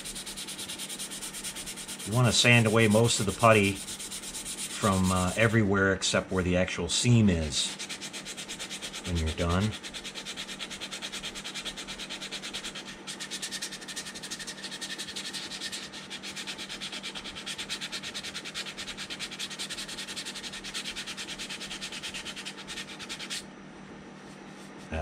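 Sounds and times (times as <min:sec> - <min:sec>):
sandpaper rubbing back and forth: 0:00.0 - 0:05.6, 0:07.5 - 0:23.4.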